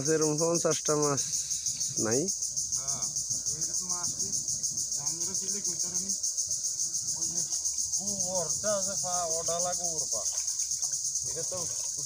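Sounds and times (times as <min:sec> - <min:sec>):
insects chirping: 0:00.0 - 0:12.0
people talking indistinctly: 0:00.0 - 0:12.0.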